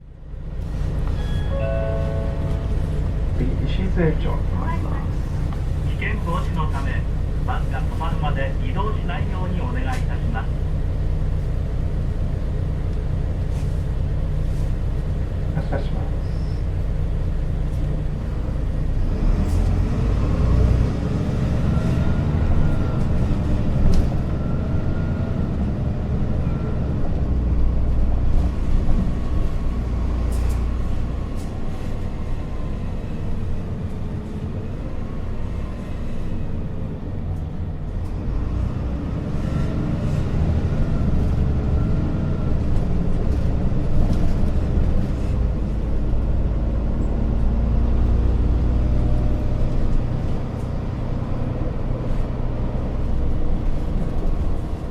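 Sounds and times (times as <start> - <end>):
bus engine and road rumble: 0.0 - 54.9
faint engine whine: 0.1 - 54.9.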